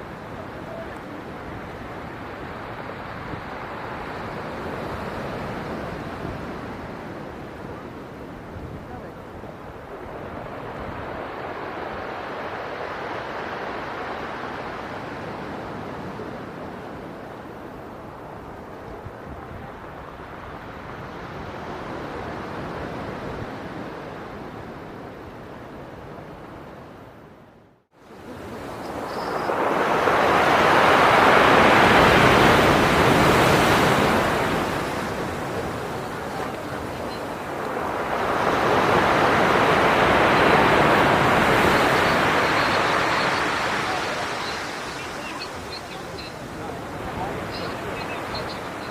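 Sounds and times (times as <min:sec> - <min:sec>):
storm waves rushing in: 0:00.0 - 0:27.4, 0:28.0 - 0:48.9.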